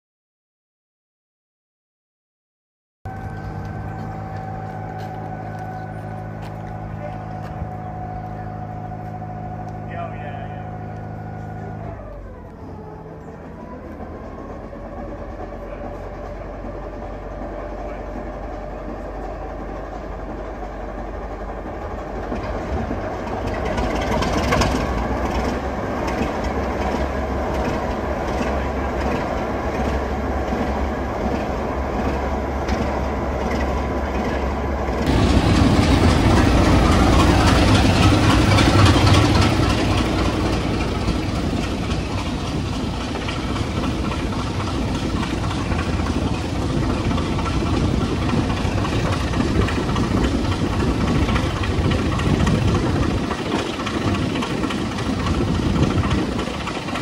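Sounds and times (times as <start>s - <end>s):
diesel locomotive engine running: 3.1s - 57.0s
moving train noise: 3.1s - 57.0s.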